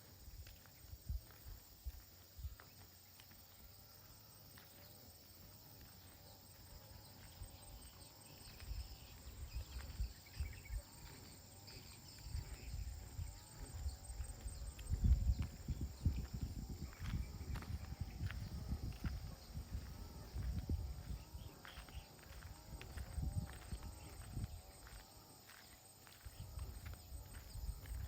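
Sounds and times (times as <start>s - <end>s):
wind rumble on microphone: 0.0s - 2.7s, 6.6s - 28.0s
faint insect chirping: 0.0s - 28.0s
footsteps on outdoor path: 0.0s - 28.0s.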